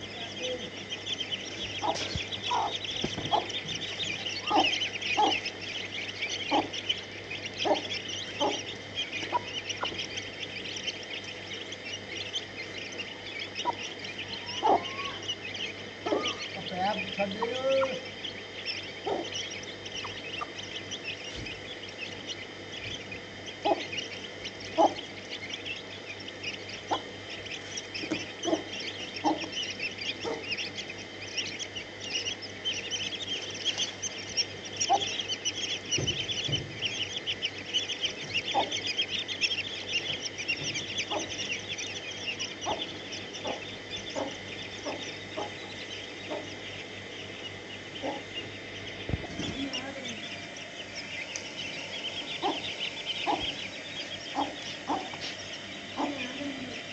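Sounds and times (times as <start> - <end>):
chicks peeping: 0.0 - 56.9
hen clucking: 0.0 - 56.9.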